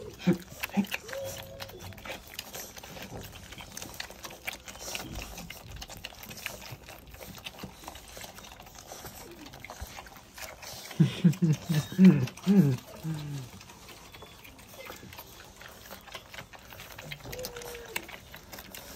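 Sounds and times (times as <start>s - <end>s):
puppies suckling: 0.0s - 18.9s.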